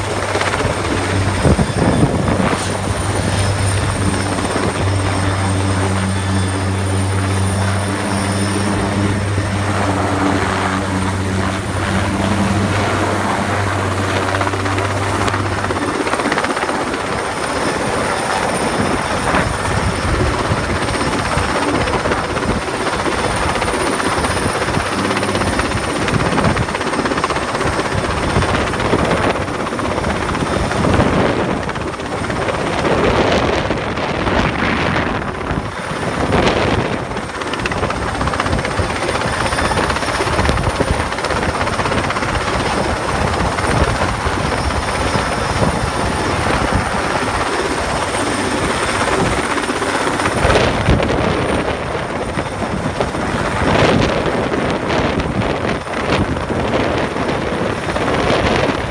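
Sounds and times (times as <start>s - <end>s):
helicopter rotor and engine: 0.0s - 58.9s.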